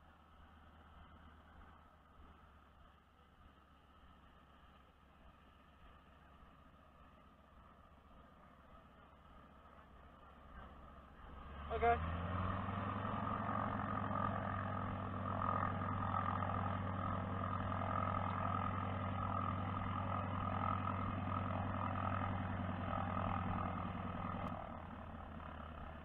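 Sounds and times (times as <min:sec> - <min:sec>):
engine idling hum: 0:00.0 - 0:26.0.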